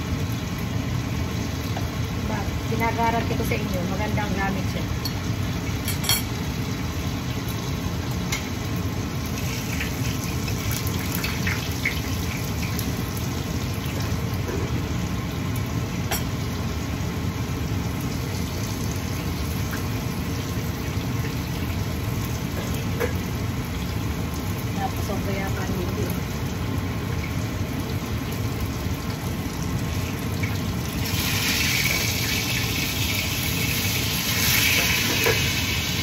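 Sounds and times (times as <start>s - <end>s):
range hood fan humming: 0.0s - 36.0s.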